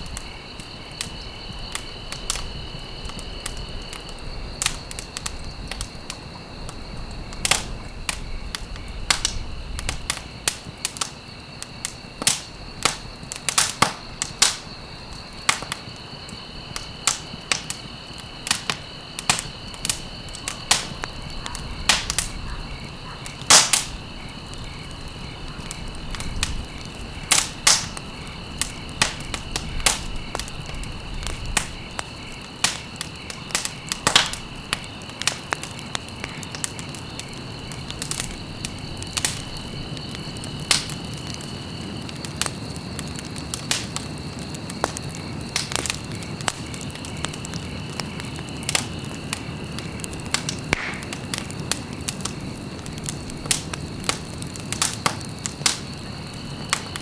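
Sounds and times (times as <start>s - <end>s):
low hiss of flames: 0.0s - 57.0s
wood fire crackling and popping: 0.0s - 57.0s.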